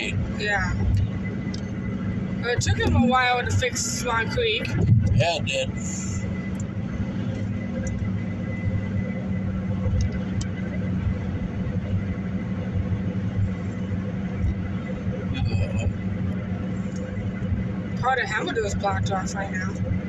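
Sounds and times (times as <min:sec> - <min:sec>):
car interior engine and road noise: 0:00.0 - 0:20.0.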